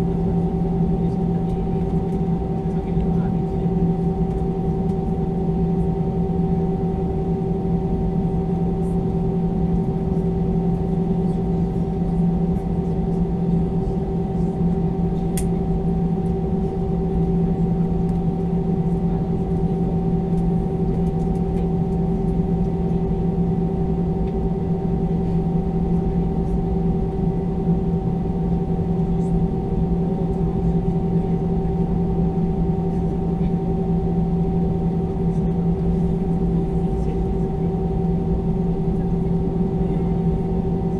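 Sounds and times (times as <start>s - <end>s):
aircraft cabin drone: 0.0s - 40.9s.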